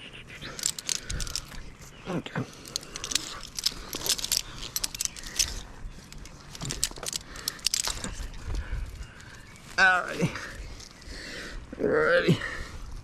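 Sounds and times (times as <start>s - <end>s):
metal climbing hardware clinking: 0.4s - 11.1s.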